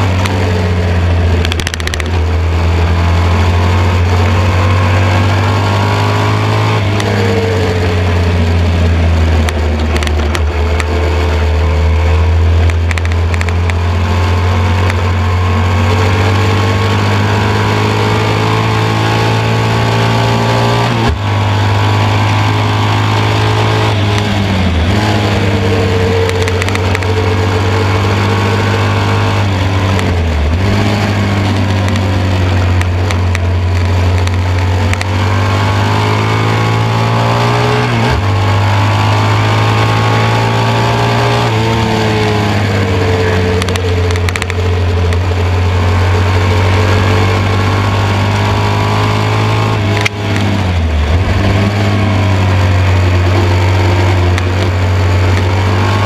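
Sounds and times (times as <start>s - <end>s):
motorcycle engine running hard: 0.0s - 56.0s.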